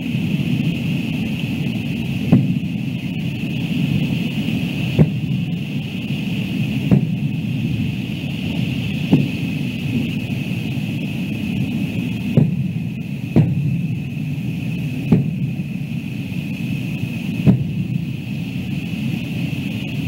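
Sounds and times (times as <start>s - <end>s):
distant fireworks booming: 0.0s - 20.0s
steady background rush: 0.0s - 20.0s.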